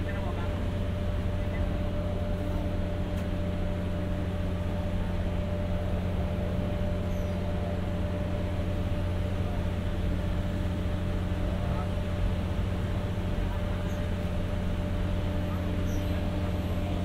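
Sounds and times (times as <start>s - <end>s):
diesel generator humming: 0.0s - 17.0s.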